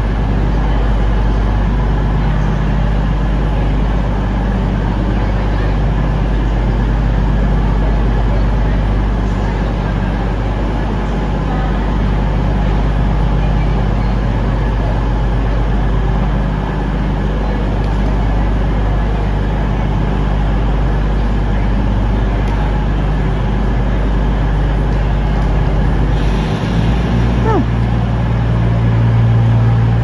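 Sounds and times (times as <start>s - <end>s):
train engine low hum: 0.0s - 30.0s.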